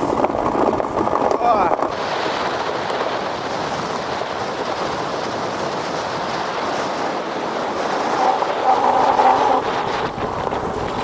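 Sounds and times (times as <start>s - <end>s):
runners gliding over ice: 0.0s - 11.0s
wind on microphone: 0.0s - 11.0s.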